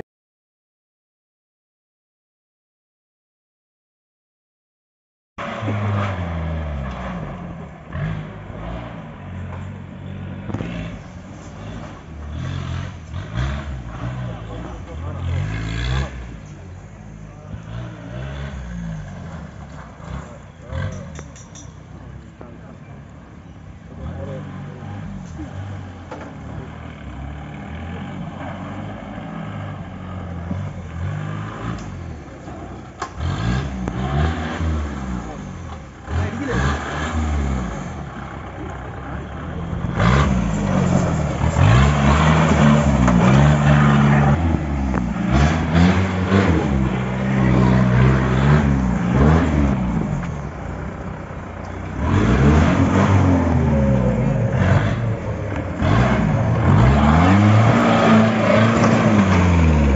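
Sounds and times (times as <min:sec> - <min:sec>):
jeep engine revving: 0:05.4 - 0:59.9.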